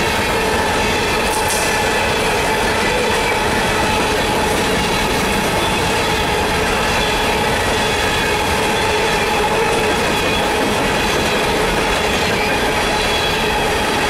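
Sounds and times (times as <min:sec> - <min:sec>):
high squealing wheels: 0:00.0 - 0:14.0
train wheels rumbling on rail: 0:00.0 - 0:14.0.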